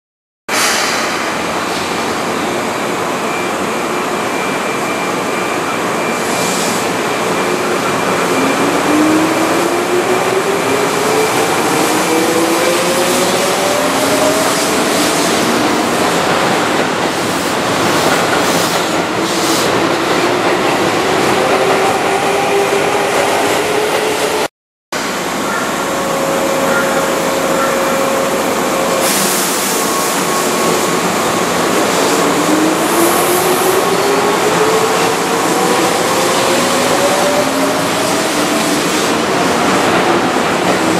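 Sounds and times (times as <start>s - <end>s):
train running noise: 0.5s - 40.9s.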